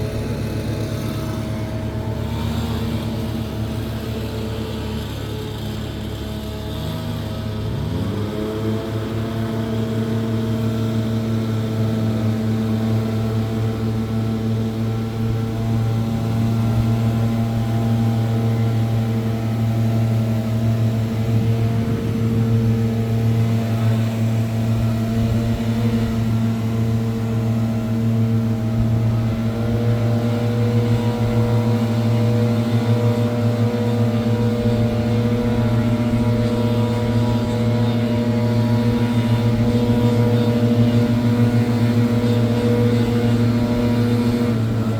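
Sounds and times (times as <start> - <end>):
leaf blower engine: 0.0 - 44.9.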